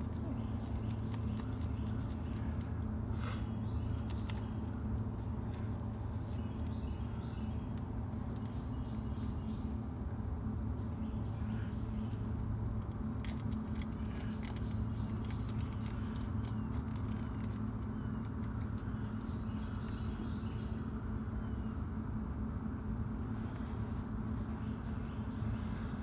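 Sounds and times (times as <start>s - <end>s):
bird chirping: 0.0s - 12.5s, 13.7s - 22.2s, 23.5s - 26.0s
steady low hum: 0.0s - 26.0s.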